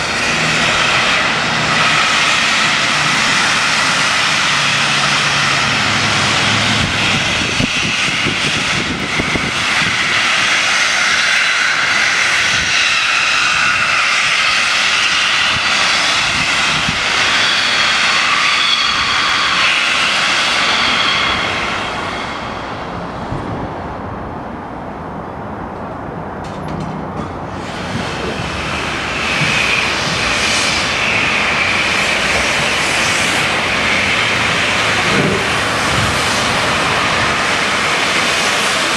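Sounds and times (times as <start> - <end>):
steam hissing: 0.0 - 23.2, 27.5 - 38.9.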